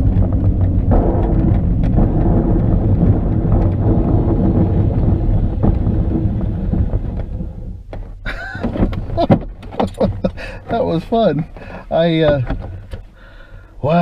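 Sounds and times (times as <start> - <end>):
wheel rumbling over runway: 0.0 - 12.6.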